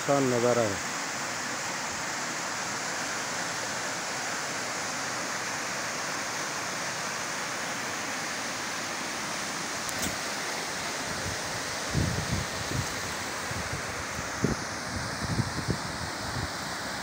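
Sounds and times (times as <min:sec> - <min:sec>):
canal water rushing: 0:00.0 - 0:17.0.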